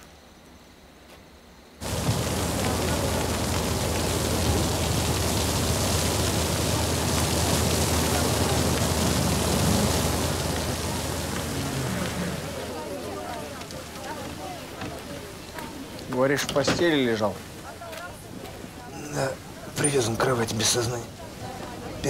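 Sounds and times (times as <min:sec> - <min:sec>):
house fire rushing: 0:01.8 - 0:22.0.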